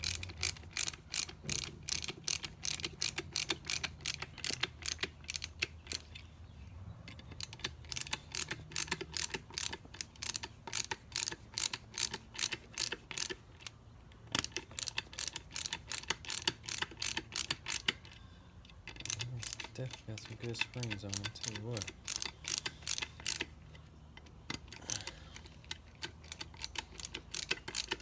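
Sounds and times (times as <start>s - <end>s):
small metal parts clicking: 0.0s - 6.3s, 7.1s - 28.0s.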